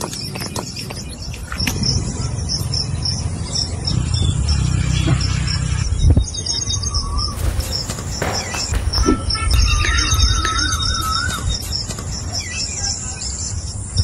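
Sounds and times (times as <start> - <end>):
cricket-like chirping: 0.0 - 14.0.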